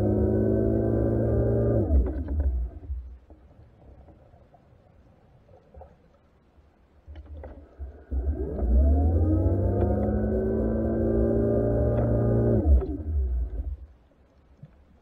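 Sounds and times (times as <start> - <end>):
underwater low rumble: 0.0 - 15.0.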